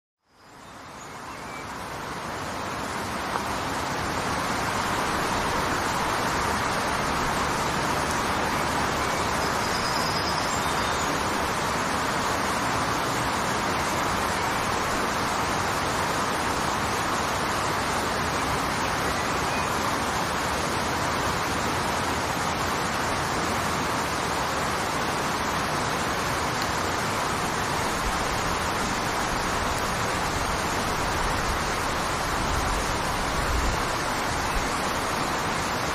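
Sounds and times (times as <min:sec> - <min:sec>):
waterfall rushing: 0:00.5 - 0:35.9.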